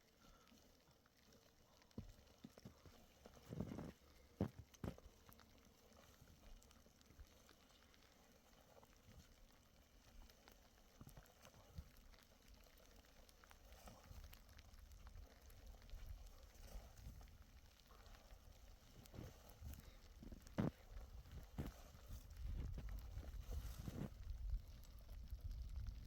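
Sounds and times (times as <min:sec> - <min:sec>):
faint ticks: 0:00.0 - 0:26.0.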